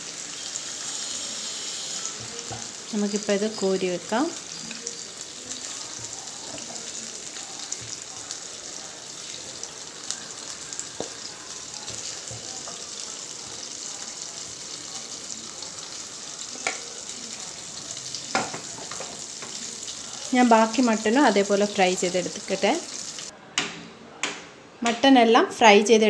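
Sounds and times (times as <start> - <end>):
hot oil sizzling: 0.0 - 23.3.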